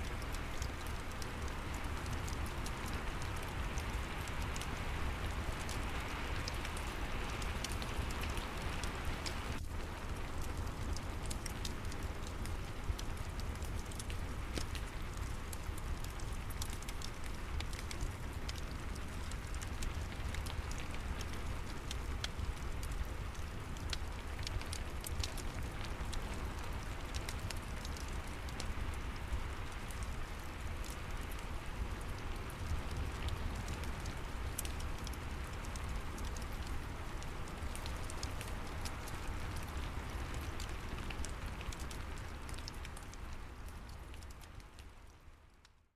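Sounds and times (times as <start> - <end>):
fireplace crackling: 0.0 - 45.6
steady rain: 0.0 - 45.9.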